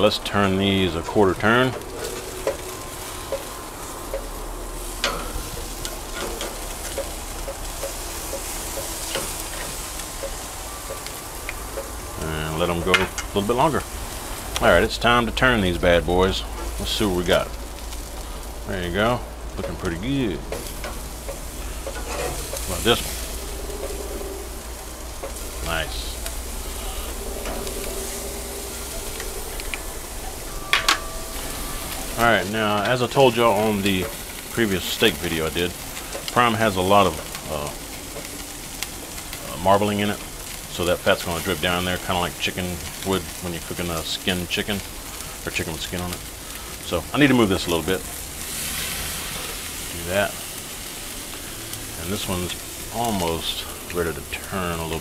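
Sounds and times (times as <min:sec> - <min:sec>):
steaks sizzling on grill: 0:00.0 - 0:55.0.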